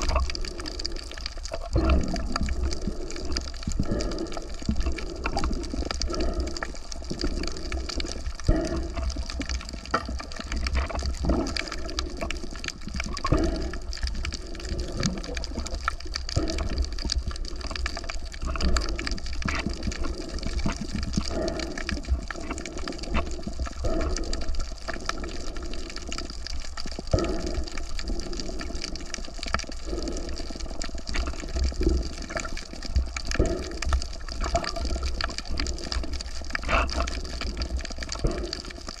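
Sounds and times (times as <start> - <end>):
water sloshing and gushing: 0.0 - 39.0.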